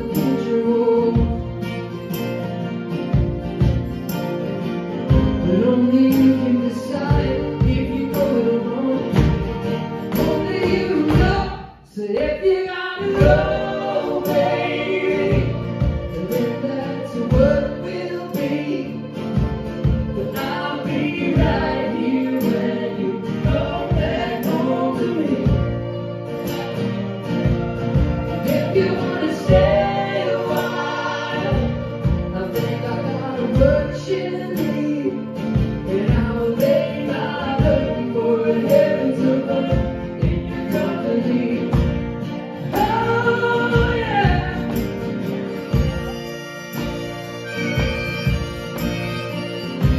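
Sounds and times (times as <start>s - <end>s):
voices singing in harmony: 0.0s - 2.7s, 5.1s - 49.9s
folk-rock band playing: 0.0s - 49.9s.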